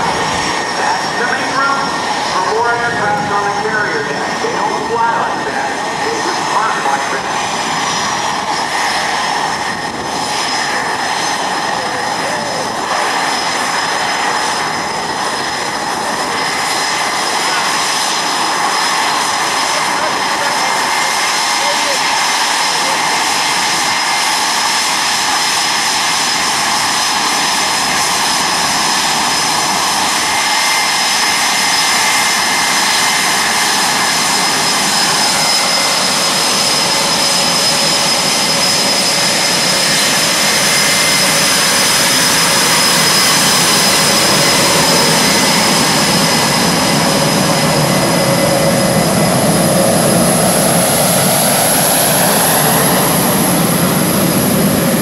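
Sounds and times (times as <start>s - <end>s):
jet engine whine and roar: 0.0s - 55.0s
sharp high jet whine: 0.0s - 55.0s.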